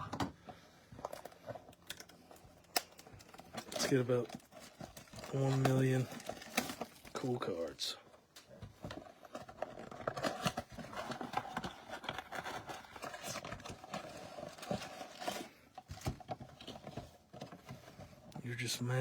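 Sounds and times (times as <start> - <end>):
plastic wrap crinkling and tearing: 1.0 - 17.4.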